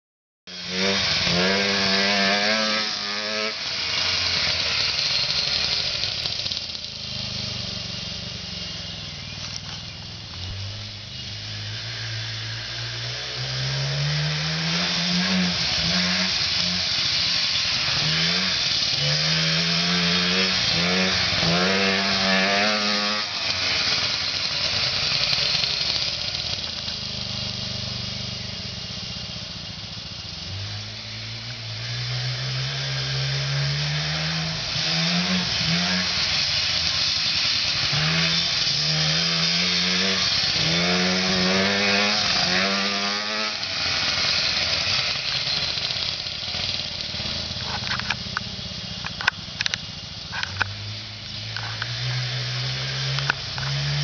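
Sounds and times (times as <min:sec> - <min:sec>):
go-kart engine revving: 0:00.5 - 0:54.0.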